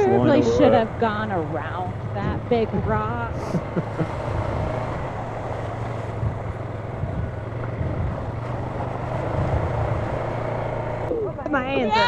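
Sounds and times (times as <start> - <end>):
atv engine running: 0.0 - 12.0
wind buffeting microphone: 0.0 - 12.0.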